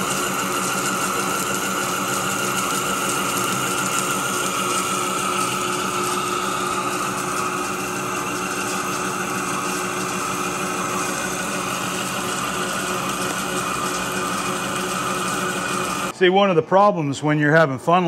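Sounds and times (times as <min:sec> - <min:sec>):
coolant spraying: 0:00.0 - 0:16.1
metal cutting: 0:00.0 - 0:16.1
lathe gear hum: 0:00.0 - 0:16.2.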